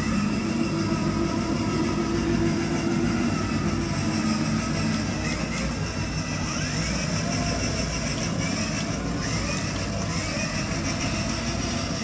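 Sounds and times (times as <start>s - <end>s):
bumper car rumbling on concrete: 0.0s - 12.0s
short rising motor whines: 0.0s - 12.0s.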